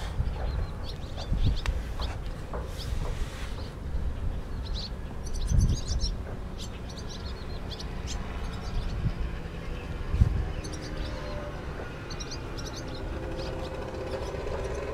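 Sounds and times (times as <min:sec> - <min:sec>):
swallows twittering: 0:00.0 - 0:14.9.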